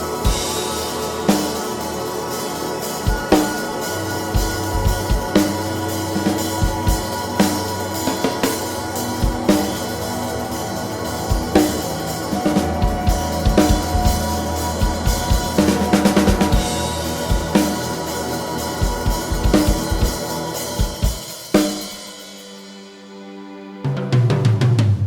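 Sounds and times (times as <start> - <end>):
drum kit playing: 0.0 - 23.2, 23.8 - 25.0
ambient drone: 0.0 - 23.7.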